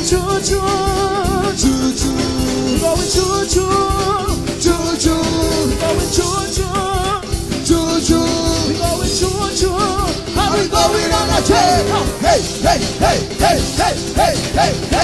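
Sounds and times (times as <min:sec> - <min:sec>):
band music: 0:00.0 - 0:15.0
driving drum beat: 0:00.0 - 0:15.0
lead riff of short notes: 0:01.7 - 0:15.0.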